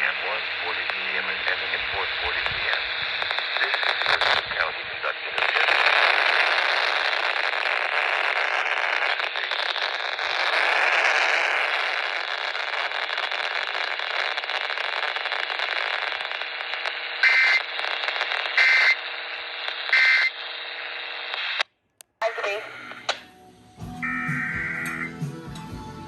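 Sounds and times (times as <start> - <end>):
radio static hiss: 0.0 - 23.2.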